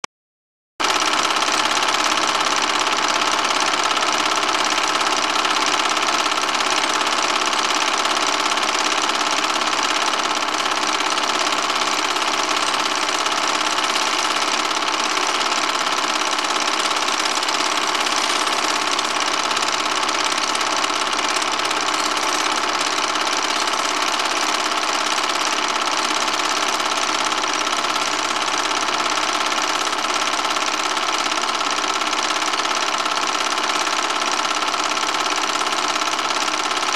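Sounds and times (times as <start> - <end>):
film projector whirring: 0.8 - 36.9.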